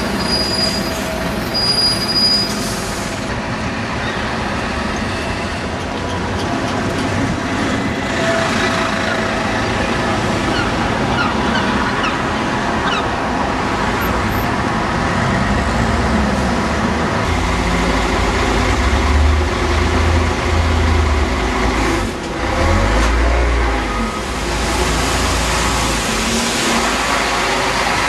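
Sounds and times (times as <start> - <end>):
heavy vehicle engine rumble: 0.0 - 28.0
road traffic: 0.0 - 28.0.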